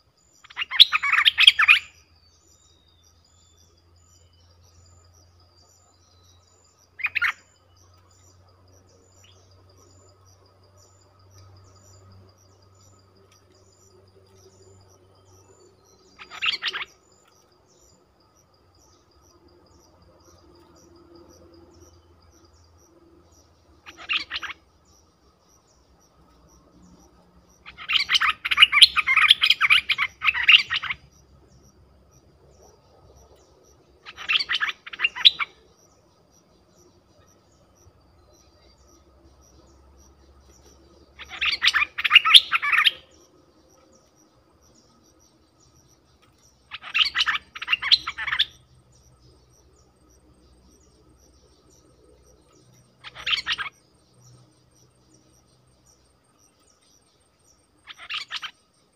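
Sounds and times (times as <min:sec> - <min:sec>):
bird chattering song: 0:00.0 - 0:58.9.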